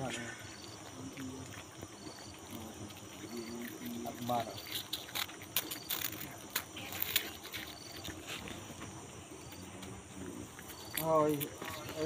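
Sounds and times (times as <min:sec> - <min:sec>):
cats crunching snack: 0:00.0 - 0:12.0.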